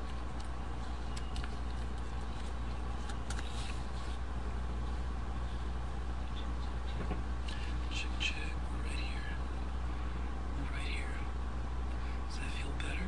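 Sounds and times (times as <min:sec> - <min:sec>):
incubator fan humming: 0:00.0 - 0:13.0.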